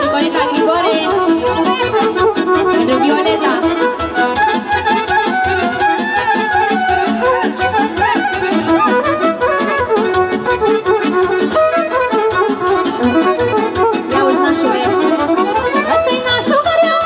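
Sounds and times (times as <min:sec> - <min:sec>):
folk dance music: 0:00.0 - 0:17.0.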